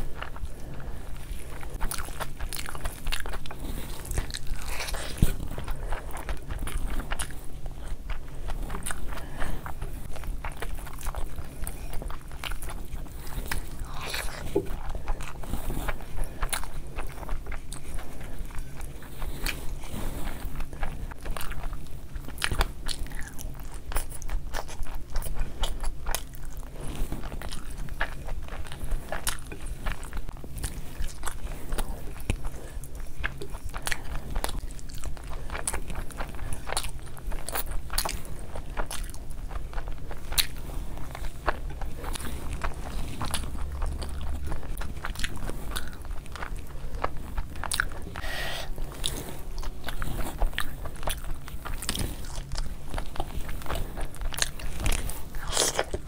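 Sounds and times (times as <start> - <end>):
chewing food: 0.0 - 56.0.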